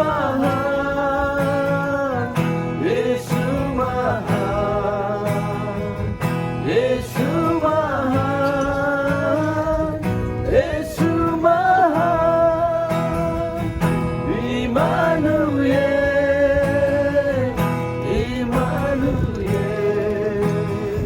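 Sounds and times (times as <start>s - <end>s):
guitar accompaniment: 0.0s - 21.0s
person singing worship song: 0.0s - 21.0s.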